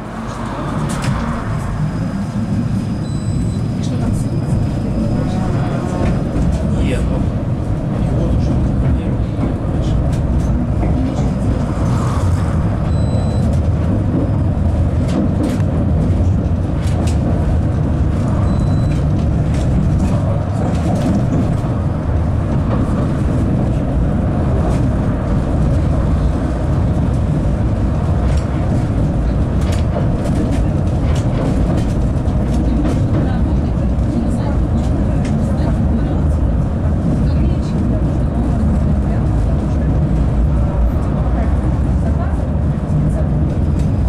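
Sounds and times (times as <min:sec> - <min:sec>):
tram wheels rumbling on rails: 0:00.0 - 0:44.0.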